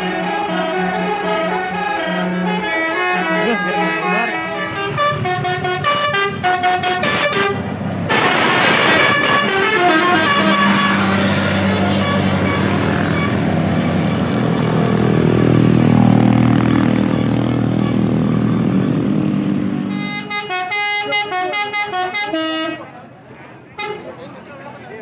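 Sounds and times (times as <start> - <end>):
deep vehicle engine drone: 0.0 - 20.3
musical bus horn: 0.0 - 23.0, 23.8 - 24.1.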